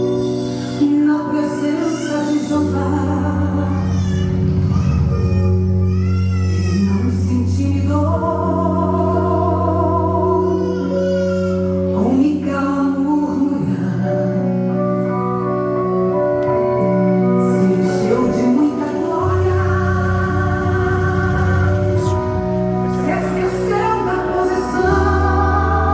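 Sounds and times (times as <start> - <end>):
held backing chords: 0.0 - 25.9
woman singing with vibrato: 0.6 - 5.7, 6.6 - 15.2, 17.2 - 25.9.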